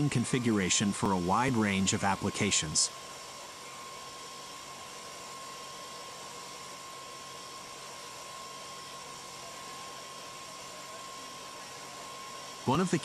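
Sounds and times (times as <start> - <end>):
lathe milling whir and whine: 0.0 - 13.0.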